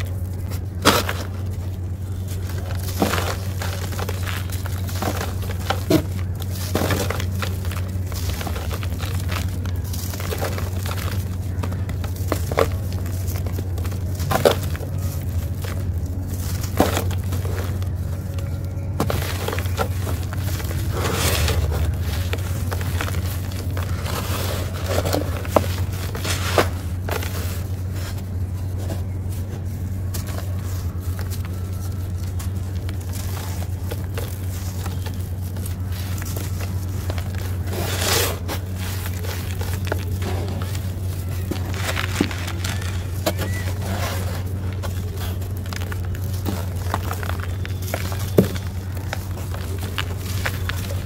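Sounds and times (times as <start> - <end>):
dry chunks crunching and snapping: 0.0 - 51.0
gritty rubbing and sifting: 0.0 - 51.0
steady low hum: 0.0 - 51.0.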